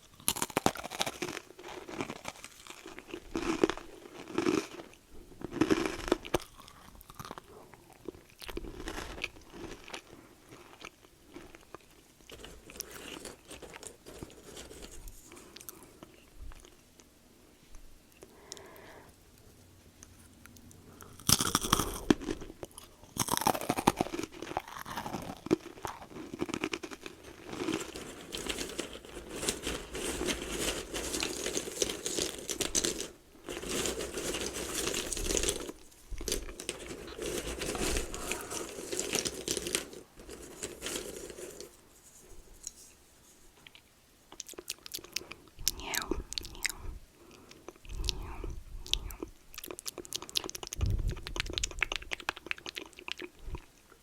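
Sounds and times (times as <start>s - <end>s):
chewing crunchy snack: 0.0s - 16.8s, 20.4s - 42.8s, 43.6s - 54.0s.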